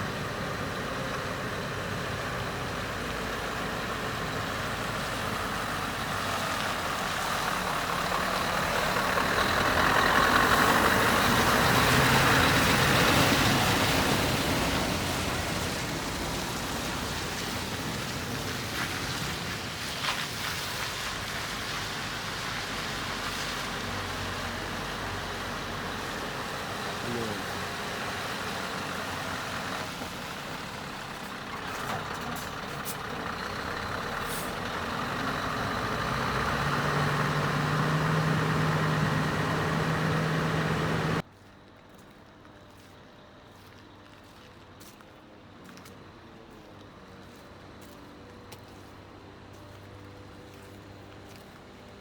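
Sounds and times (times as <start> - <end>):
heavy truck engine running: 0.0 - 52.0.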